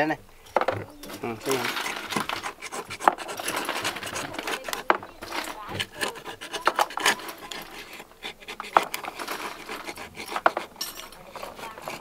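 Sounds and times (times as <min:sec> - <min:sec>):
knife scraping oyster shell: 0:01.1 - 0:12.0.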